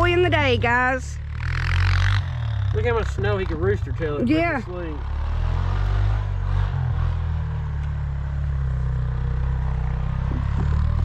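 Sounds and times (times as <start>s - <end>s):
atv engine under throttle: 0.0s - 11.0s.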